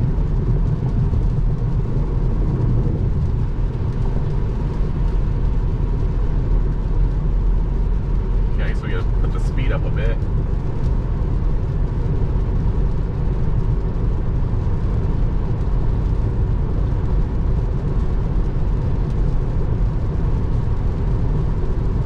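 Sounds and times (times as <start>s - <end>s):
rain: 0.0s - 22.0s
road and wind noise in car: 0.0s - 22.0s.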